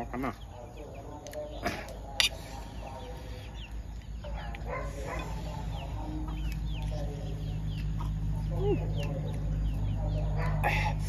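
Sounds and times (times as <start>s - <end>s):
lower bird calls: 0.0s - 11.0s
steady low hum: 0.0s - 11.0s.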